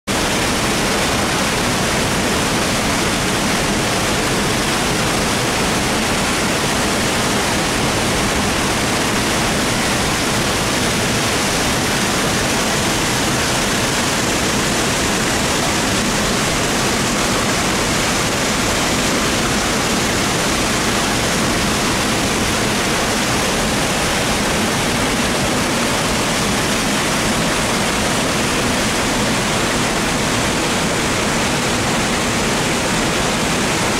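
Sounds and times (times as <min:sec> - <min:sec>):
small waterfall rushing: 0:00.1 - 0:33.9.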